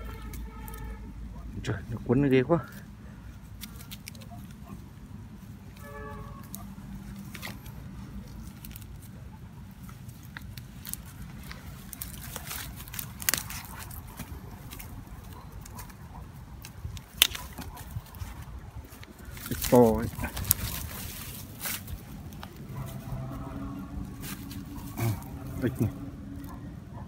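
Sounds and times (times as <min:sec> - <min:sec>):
dry leaves rustling and snapping: 0:00.0 - 0:01.1, 0:01.7 - 0:27.0
low steady rumble: 0:00.0 - 0:27.0.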